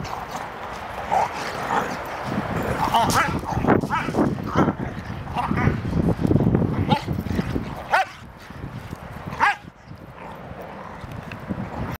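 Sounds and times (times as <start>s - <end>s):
dogs wrestling: 0.0s - 11.2s.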